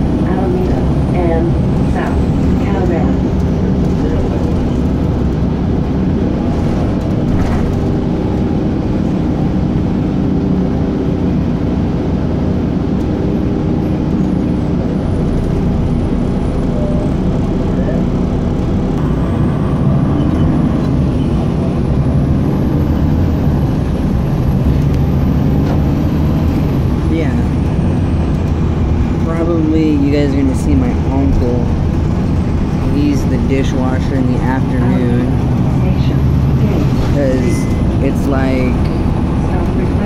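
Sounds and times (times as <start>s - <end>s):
motor vehicle rumble: 0.0s - 40.0s
road noise: 0.0s - 40.0s.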